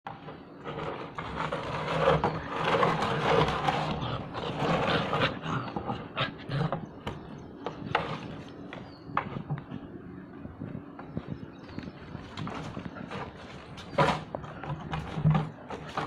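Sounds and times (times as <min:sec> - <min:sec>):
puppy scuffling in plastic tub: 0:00.6 - 0:09.7, 0:12.1 - 0:16.0.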